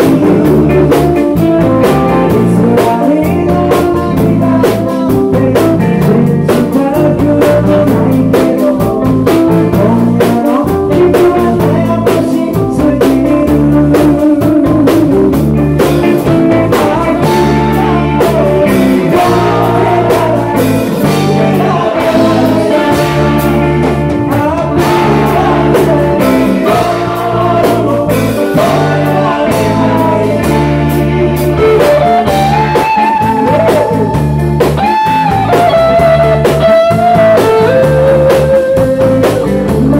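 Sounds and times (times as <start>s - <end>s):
drum kit: 0.0s - 39.9s
electric bass: 0.0s - 39.9s
electric guitar: 0.0s - 39.9s
man singing lead: 0.0s - 39.9s.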